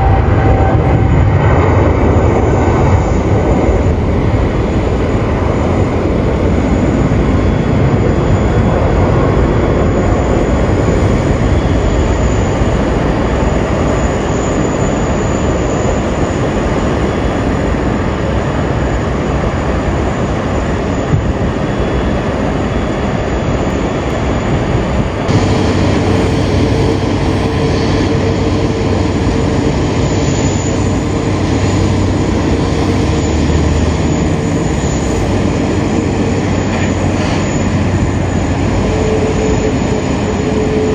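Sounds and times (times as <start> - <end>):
jet engines roaring: 0.0 - 40.9
steady low hum: 0.0 - 40.9.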